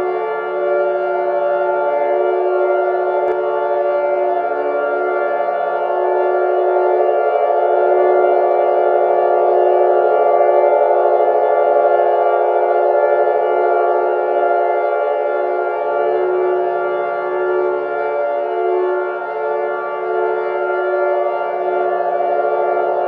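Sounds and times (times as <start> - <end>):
alert alarm drone: 0.0 - 23.0.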